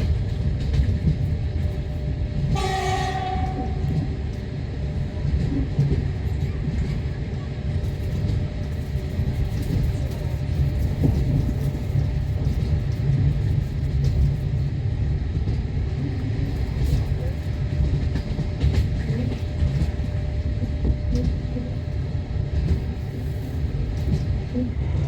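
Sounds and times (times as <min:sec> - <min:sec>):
rail clacks: 0:00.0 - 0:25.0
train wheels rumbling: 0:00.0 - 0:25.0.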